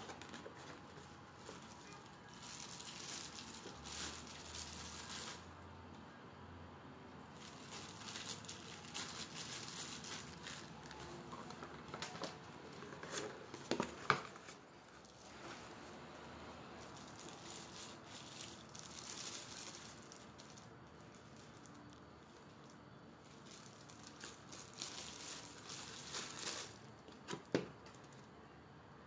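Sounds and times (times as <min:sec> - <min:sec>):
plastic and cardboard rustling: 0:00.0 - 0:05.6, 0:07.3 - 0:28.4.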